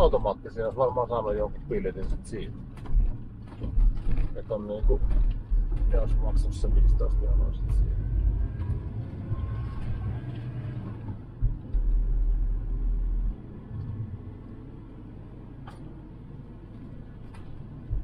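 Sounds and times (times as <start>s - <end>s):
road and engine rumble: 0.0s - 18.0s.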